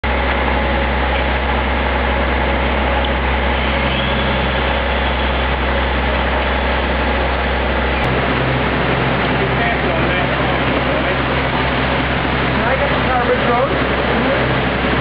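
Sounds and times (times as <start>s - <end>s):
low rumble: 0.0s - 15.0s
water gushing and rushing: 0.0s - 15.0s.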